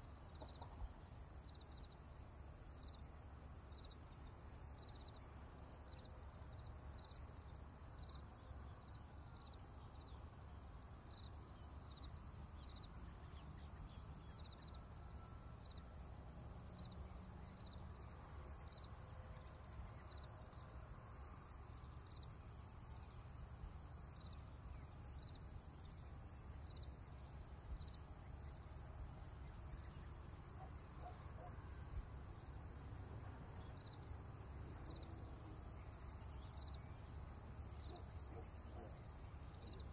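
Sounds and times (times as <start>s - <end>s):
insect chorus high buzz: 0.0s - 39.9s
soft insect chirp: 0.0s - 39.9s.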